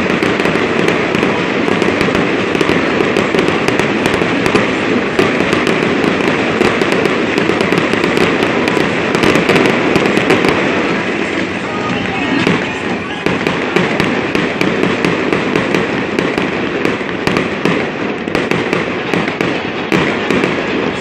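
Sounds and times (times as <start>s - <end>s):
fireworks popping and crackling: 0.0s - 21.0s.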